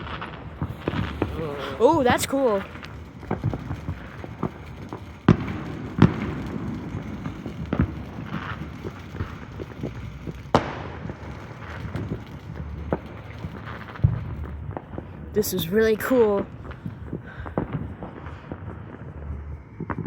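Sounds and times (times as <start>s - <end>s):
fireworks bangs and pops: 0.0s - 20.0s
fireworks crackling: 0.0s - 20.0s.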